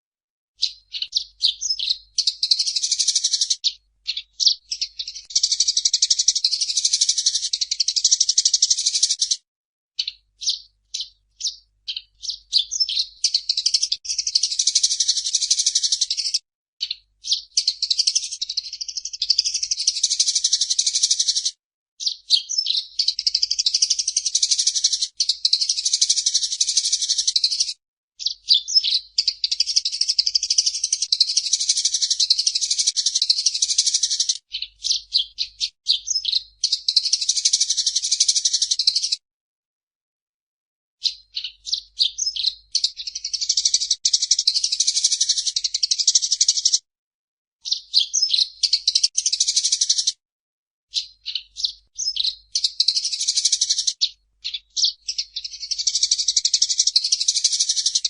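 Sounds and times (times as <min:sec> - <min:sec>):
sparrow chattering: 0:00.6 - 0:09.4, 0:10.0 - 0:39.2, 0:41.0 - 0:46.8, 0:47.6 - 0:50.1, 0:50.9 - 0:58.0.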